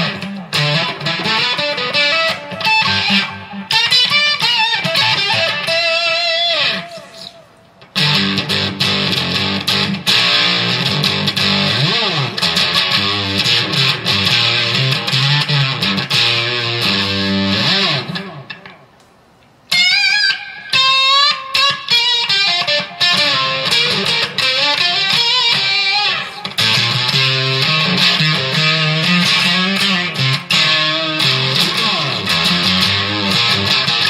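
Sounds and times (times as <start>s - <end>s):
electric guitar through amp: 0.0s - 19.1s, 19.7s - 34.0s.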